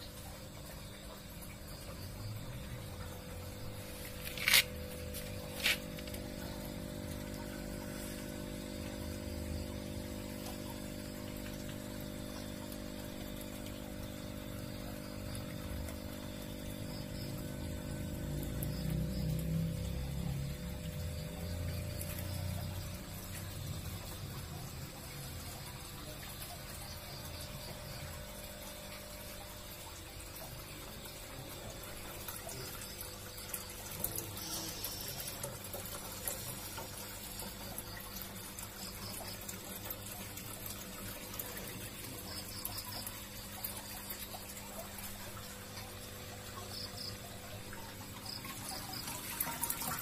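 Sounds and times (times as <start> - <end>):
water running and trickling: 0.0 - 50.0.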